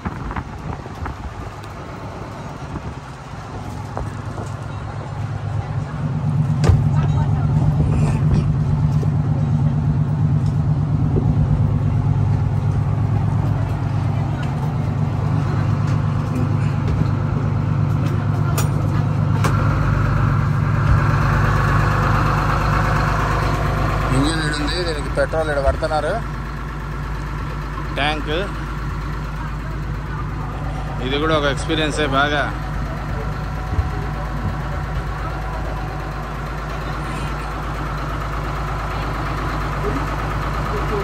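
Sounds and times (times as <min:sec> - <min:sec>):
boat diesel engine idling: 0:00.0 - 0:41.0.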